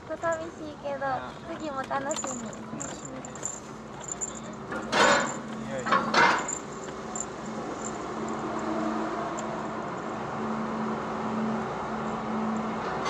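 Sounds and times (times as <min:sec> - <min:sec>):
van engine droning: 0:00.0 - 0:13.0.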